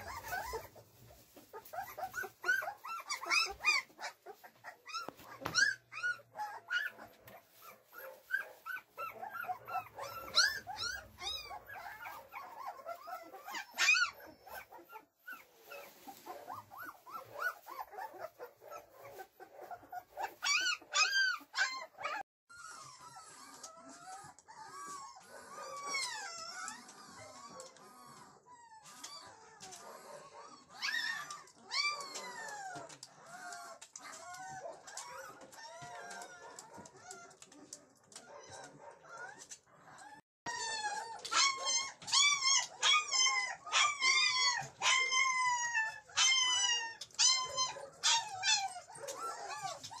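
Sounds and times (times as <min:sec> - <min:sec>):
puppies whining and squealing: 0:00.0 - 0:50.0.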